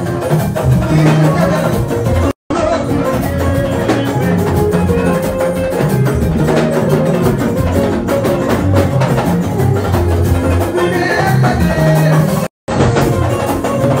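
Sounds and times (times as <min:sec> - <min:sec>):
loud dance music: 0:00.0 - 0:14.0.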